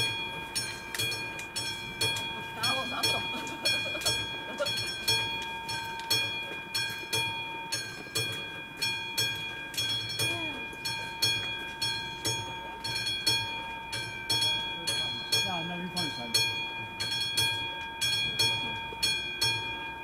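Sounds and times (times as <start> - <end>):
level crossing bell ringing: 0.0 - 20.0.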